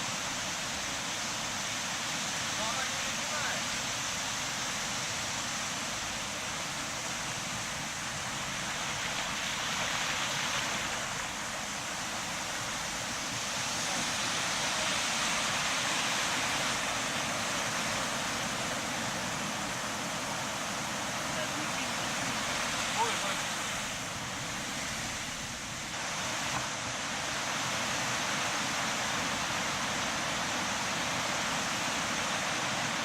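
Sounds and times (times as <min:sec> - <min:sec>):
water rushing past a yacht: 0:00.0 - 0:33.0.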